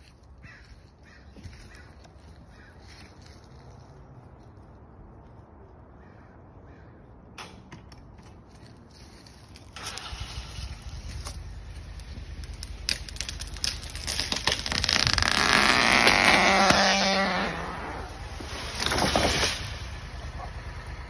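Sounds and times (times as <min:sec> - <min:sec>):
tree creaking and crackling: 0:00.0 - 0:06.9, 0:08.0 - 0:21.0.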